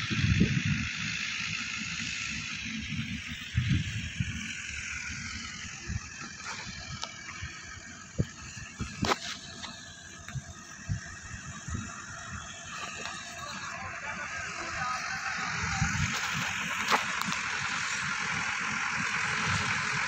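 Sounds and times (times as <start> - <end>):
wind buffeting microphone: 0.0 - 1.0, 3.0 - 4.6, 5.8 - 13.8, 14.4 - 20.0
distant diesel tractors running: 0.0 - 20.0.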